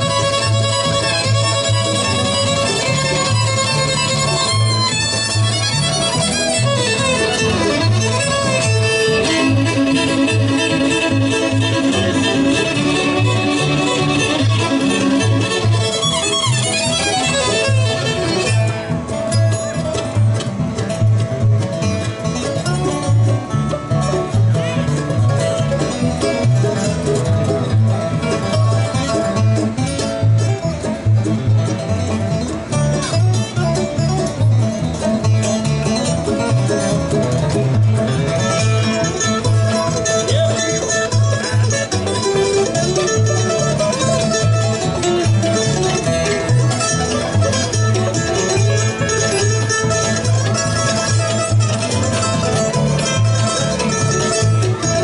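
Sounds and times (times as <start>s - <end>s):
bluegrass band playing: 0.0s - 55.0s.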